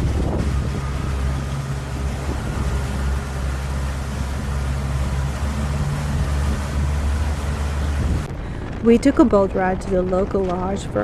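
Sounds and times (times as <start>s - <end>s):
motorboat engine drone: 0.0s - 11.0s
water rushing: 0.0s - 11.0s
wind: 0.0s - 11.0s.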